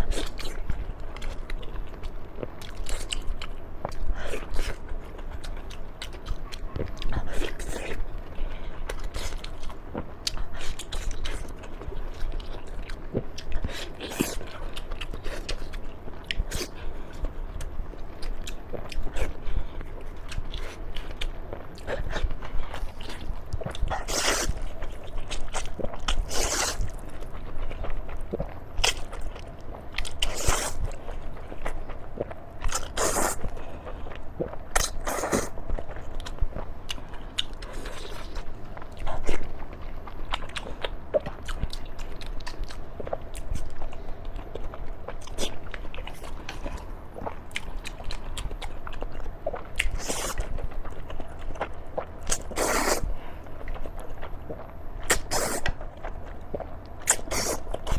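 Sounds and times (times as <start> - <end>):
person chewing: 0.0 - 57.9.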